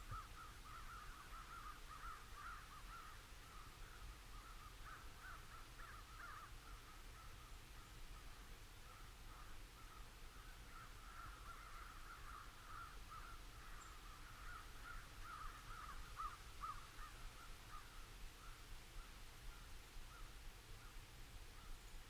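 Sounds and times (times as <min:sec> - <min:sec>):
faint flock of birds calling: 0:00.0 - 0:22.0.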